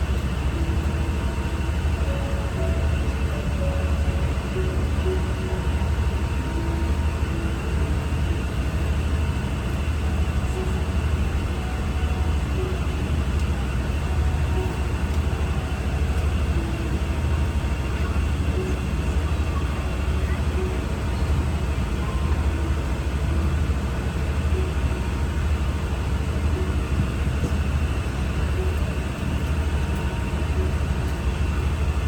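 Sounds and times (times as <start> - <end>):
jet cabin engine rumble: 0.0 - 32.0.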